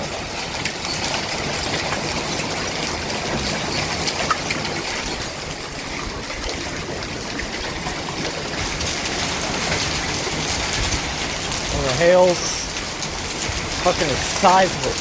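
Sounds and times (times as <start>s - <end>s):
hailstones clicking: 0.0s - 15.0s
heavy rain: 0.0s - 15.0s.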